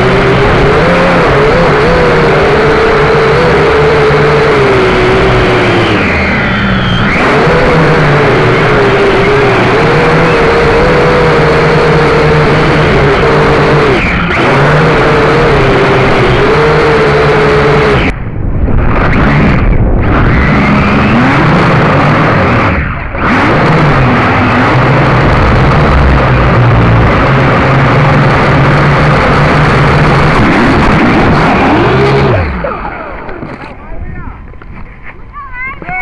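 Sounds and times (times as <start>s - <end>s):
drone propellers whining: 0.0s - 36.0s.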